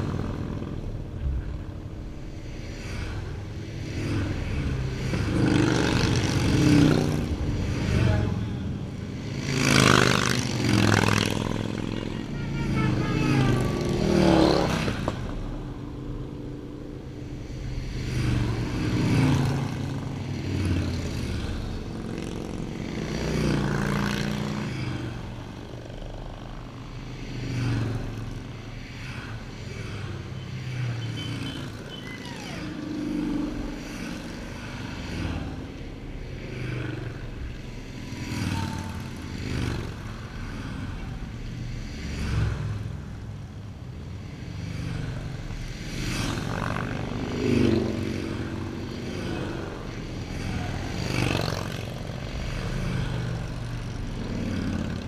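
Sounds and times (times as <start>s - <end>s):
motorcycles riding past: 0.0s - 55.0s.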